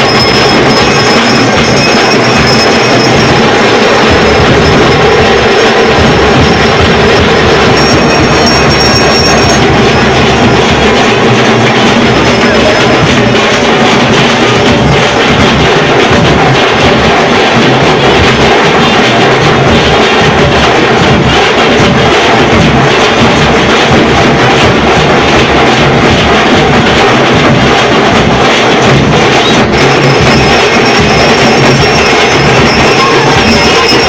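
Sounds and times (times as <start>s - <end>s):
continuous drumming: 0.0s - 34.0s
loud festival music: 0.0s - 34.0s.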